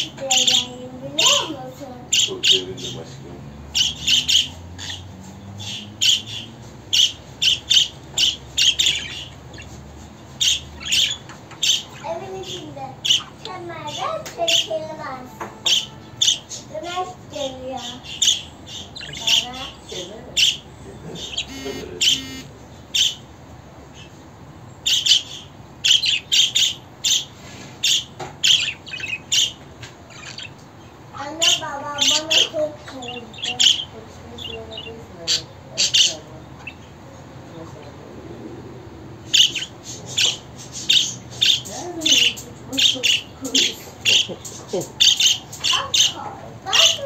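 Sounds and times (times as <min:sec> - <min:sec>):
budgerigar chirping: 0:00.0 - 0:03.0, 0:03.7 - 0:09.8, 0:10.4 - 0:14.7, 0:15.6 - 0:16.7, 0:17.4 - 0:23.2, 0:24.8 - 0:30.6, 0:31.2 - 0:37.0, 0:39.2 - 0:47.0.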